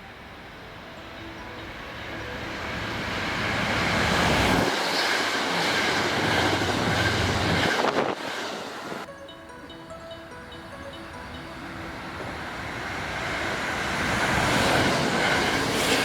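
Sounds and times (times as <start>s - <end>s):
train rumbling past: 0.0s - 9.1s, 9.8s - 16.0s.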